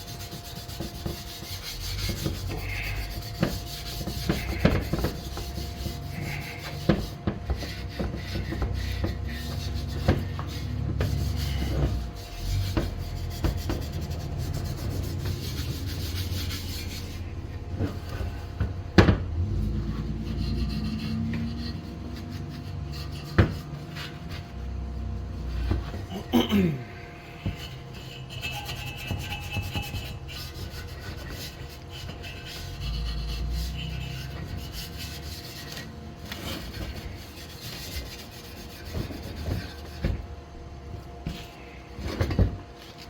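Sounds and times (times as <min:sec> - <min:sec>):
abrasive pad scrubbing metal pipe: 0:00.0 - 0:18.5, 0:19.4 - 0:26.7, 0:27.4 - 0:40.2.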